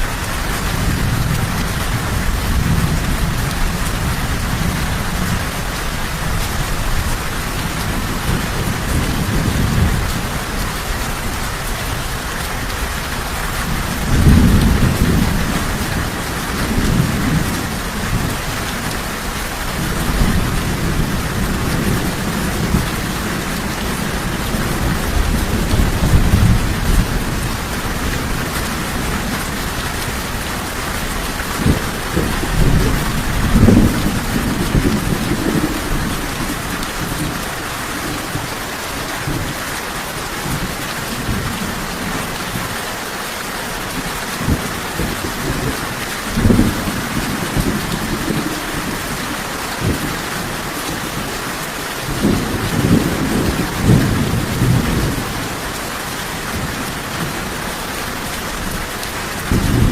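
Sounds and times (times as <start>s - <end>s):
thunder rumbling: 0.0s - 42.8s, 43.9s - 51.3s, 52.0s - 59.9s
heavy rain: 0.0s - 59.9s.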